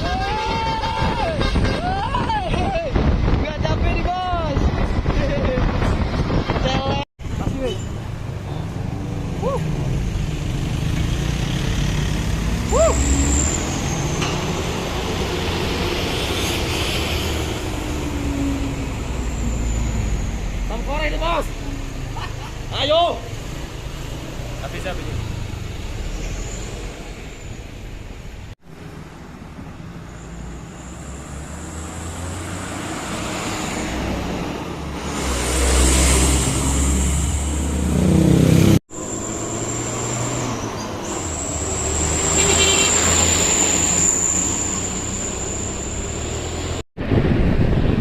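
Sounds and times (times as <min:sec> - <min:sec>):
heavy vehicles passing: 0:00.0 - 0:48.0.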